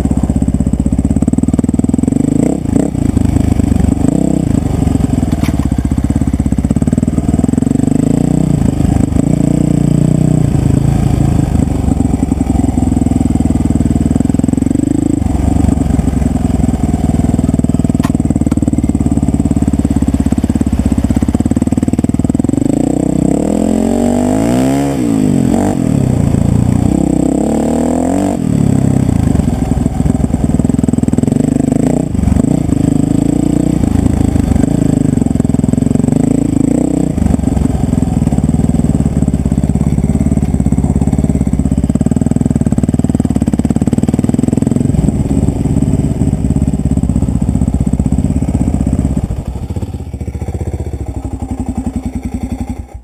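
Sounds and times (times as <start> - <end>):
dirt bike engine revving: 1.2 - 53.0.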